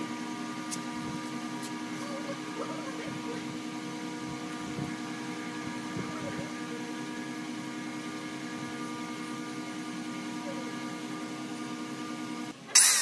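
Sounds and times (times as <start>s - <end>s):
machinery humming: 0.0s - 12.8s.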